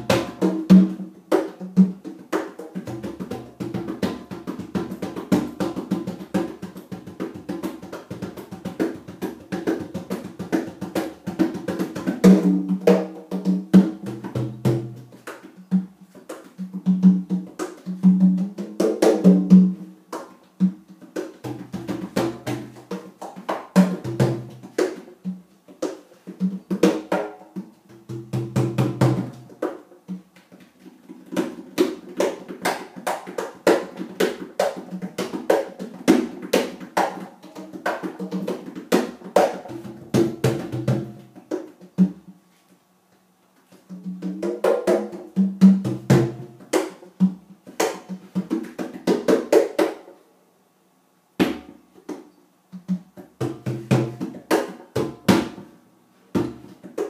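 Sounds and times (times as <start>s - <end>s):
hand drums played rhythmically: 0.0s - 42.4s, 43.7s - 50.1s, 51.4s - 55.7s, 56.3s - 57.0s.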